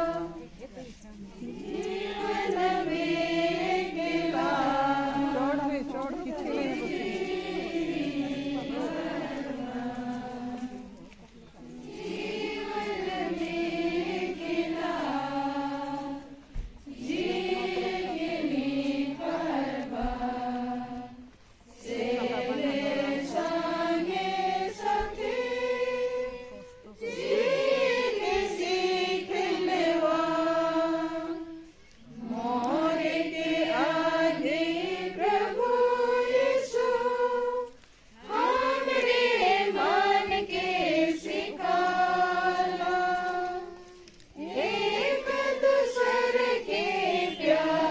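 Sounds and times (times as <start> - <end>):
group singing a slow hymn: 0.0 - 47.9.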